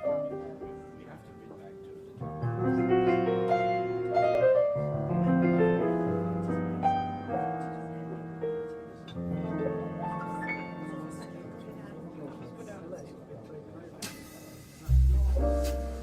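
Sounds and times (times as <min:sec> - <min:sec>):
slow piano chords: 0:00.0 - 0:14.0, 0:14.9 - 0:16.0.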